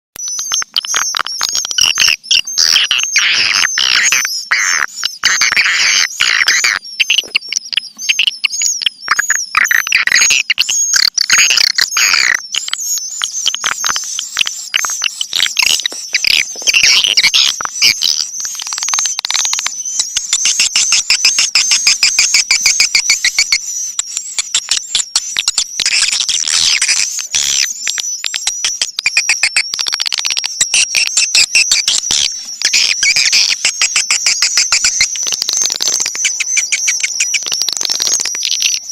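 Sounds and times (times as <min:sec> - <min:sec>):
swiftlets chirping and twittering: 0:00.2 - 0:38.9.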